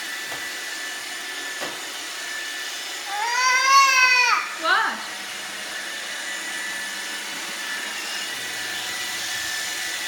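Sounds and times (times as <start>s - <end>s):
robot vacuum whirring: 0.0s - 10.0s.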